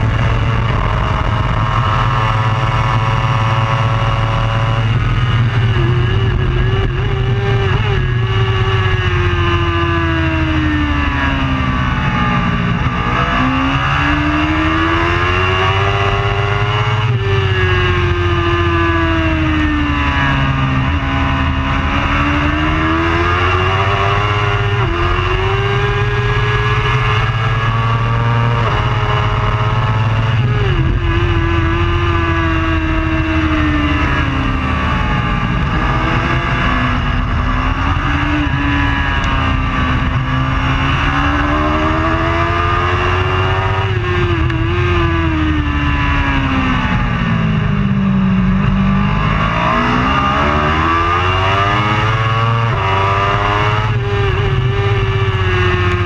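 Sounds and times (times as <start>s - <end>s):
motorcycle engine accelerating: 0.0s - 56.0s
steady low rumble: 0.0s - 56.0s.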